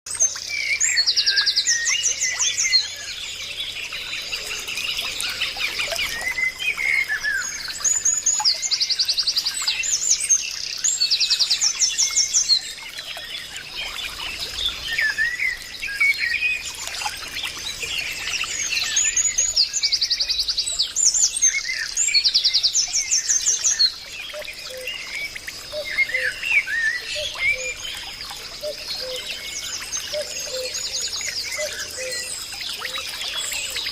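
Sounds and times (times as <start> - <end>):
forest birds singing: 0.1 - 33.9.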